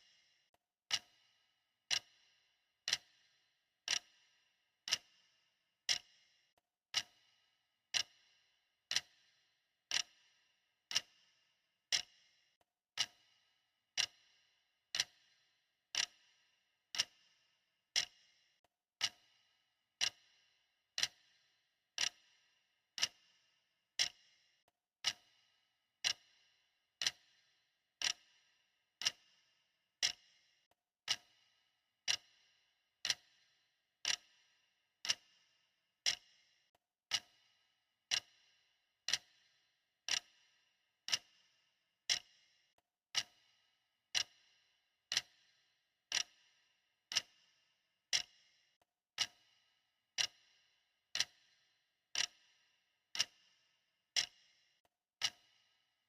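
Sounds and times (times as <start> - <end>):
clock ticking with ring: 0.0 - 56.0.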